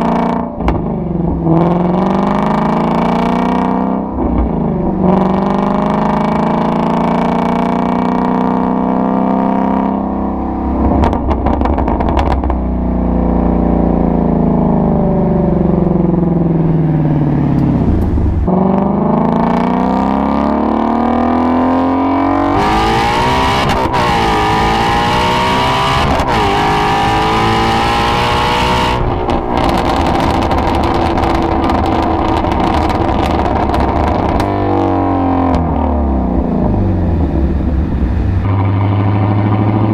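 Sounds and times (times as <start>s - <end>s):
car engine and exhaust accelerating: 0.0s - 39.9s.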